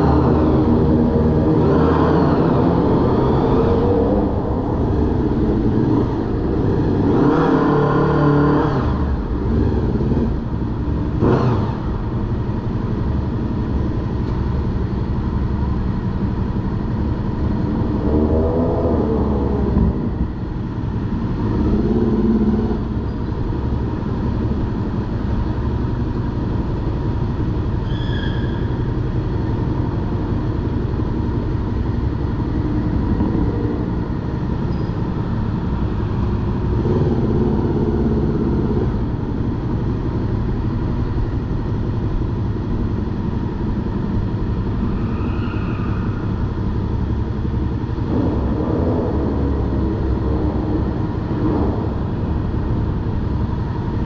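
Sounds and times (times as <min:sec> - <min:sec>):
motorcycle engine low rumble: 0:00.0 - 0:54.0.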